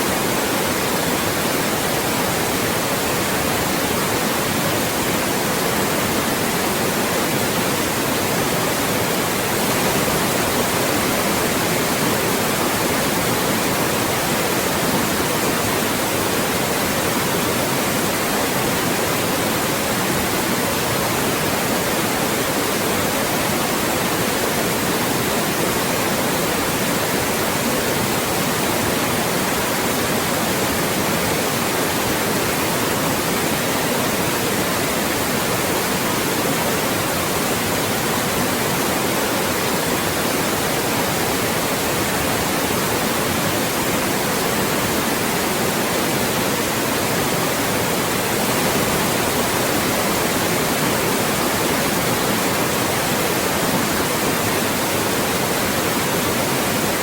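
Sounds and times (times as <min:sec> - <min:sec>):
loud white noise: 0:00.0 - 0:57.0.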